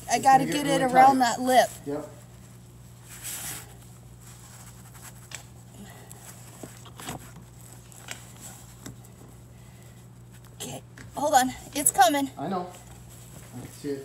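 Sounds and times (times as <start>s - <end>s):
steady low hum: 0.0s - 14.0s
cord rustling: 1.5s - 14.0s.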